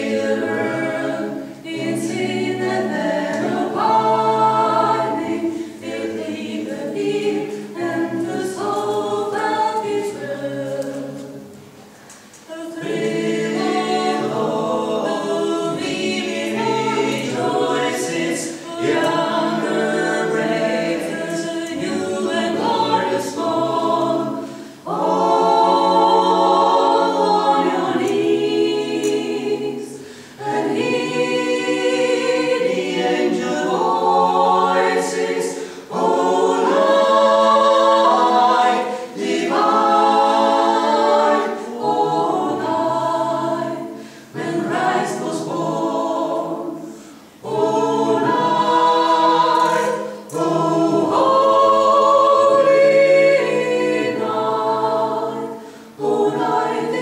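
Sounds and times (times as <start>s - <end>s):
vocal quartet singing a cappella: 0.0s - 57.0s.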